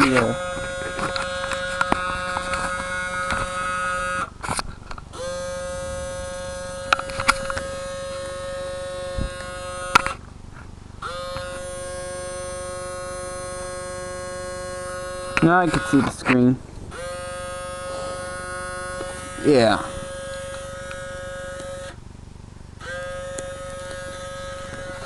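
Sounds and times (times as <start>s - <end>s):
small motor buzzing whine: 0.0s - 25.0s.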